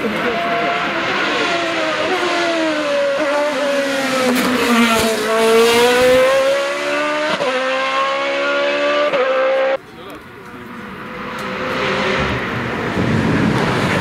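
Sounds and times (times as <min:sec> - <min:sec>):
race car engine at full throttle: 0:00.0 - 0:14.0.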